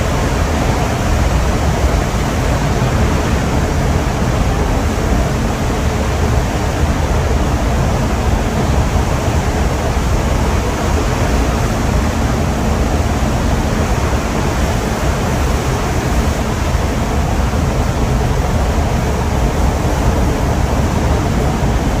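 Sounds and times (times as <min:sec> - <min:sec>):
low steady hum: 0:00.0 - 0:22.0
rushing water: 0:00.0 - 0:22.0
wind: 0:00.0 - 0:22.0.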